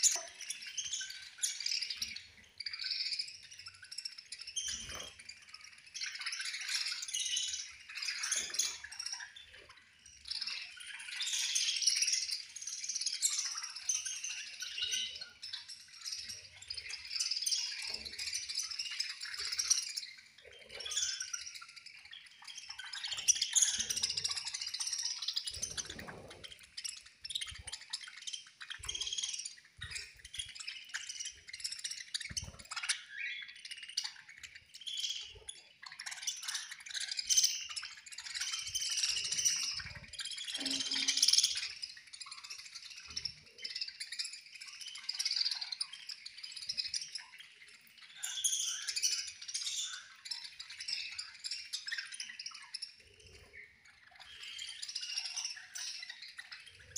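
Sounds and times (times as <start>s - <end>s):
budgerigars chattering and warbling: 0.0s - 56.9s.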